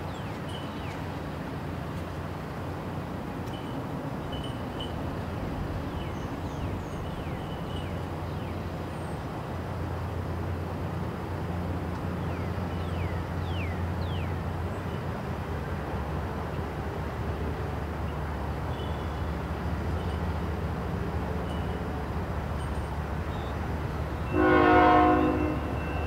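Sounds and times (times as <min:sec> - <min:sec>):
locomotive engine droning: 0:00.0 - 0:26.0.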